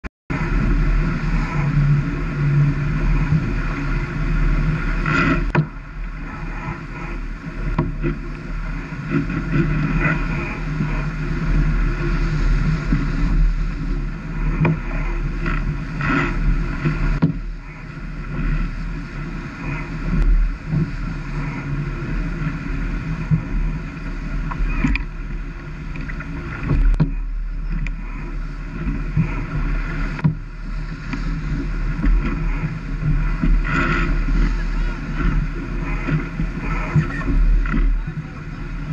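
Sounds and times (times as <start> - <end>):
steady hum: 0.3 - 38.9
water rushing along hull: 0.3 - 38.9
wind on microphone: 0.3 - 38.9.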